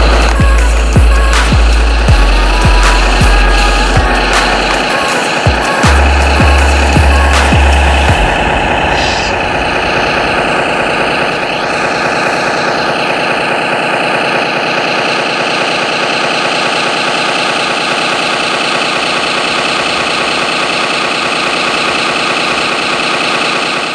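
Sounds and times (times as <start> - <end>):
simulated engine idling from speaker: 0.0 - 23.9.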